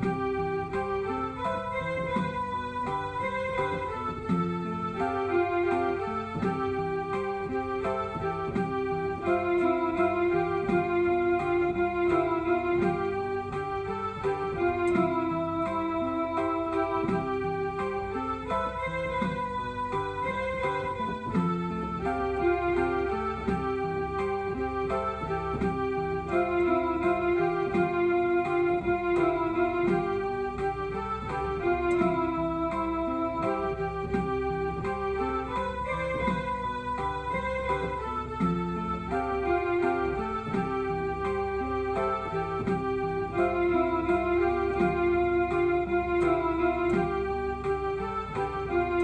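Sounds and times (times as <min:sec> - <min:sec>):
electronic keyboard music: 0:00.0 - 0:49.0.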